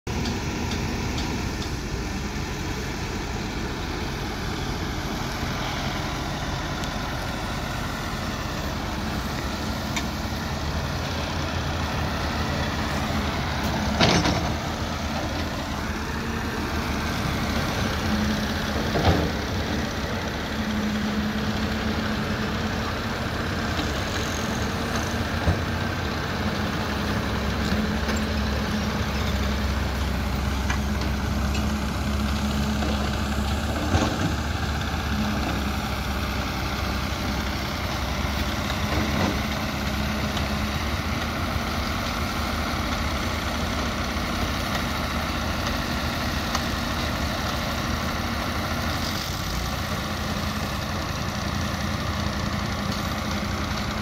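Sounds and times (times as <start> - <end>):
excavator diesel engine running: 0.1 - 54.0.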